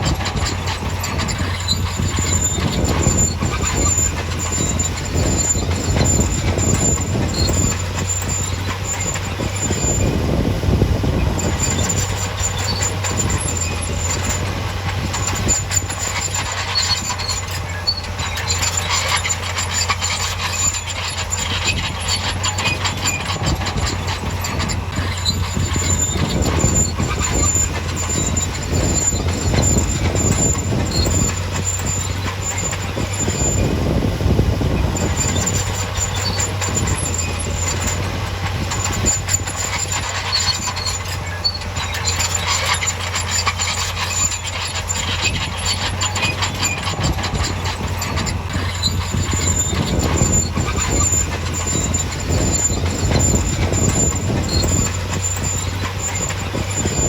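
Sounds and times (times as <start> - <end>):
crawler tracks clanking: 0.0 - 57.0
crawler tracks squealing: 0.0 - 57.0
diesel engine rumble: 0.0 - 57.0.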